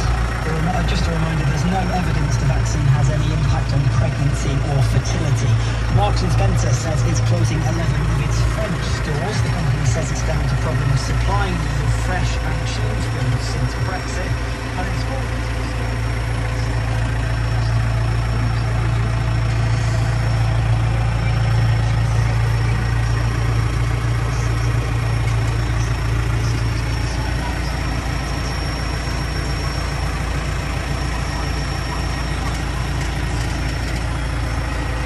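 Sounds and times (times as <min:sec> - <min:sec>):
tractor diesel engine idling: 0:00.0 - 0:35.0.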